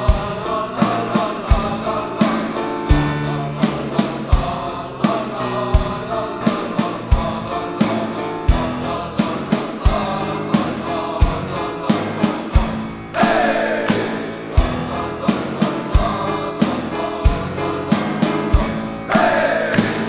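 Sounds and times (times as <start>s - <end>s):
percussion ensemble music: 0.0s - 20.0s.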